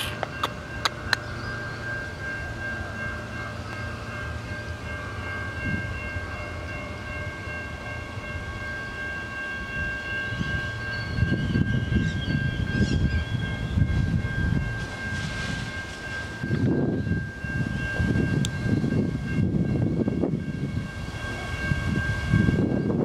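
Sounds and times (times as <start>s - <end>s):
electric train high whine: 0.0s - 23.0s
train low rumble: 0.0s - 23.0s.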